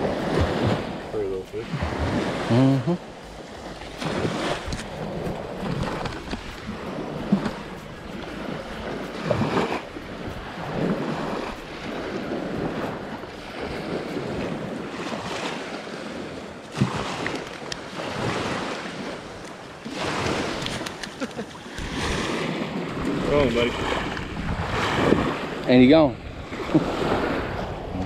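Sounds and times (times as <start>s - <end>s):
water sloshing and splashing: 0.0s - 25.6s
wind buffeting microphone: 0.0s - 28.0s.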